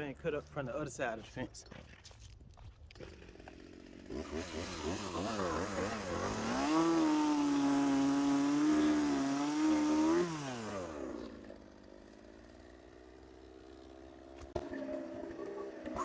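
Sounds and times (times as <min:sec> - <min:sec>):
chainsaw engine revving: 0:02.9 - 0:16.0.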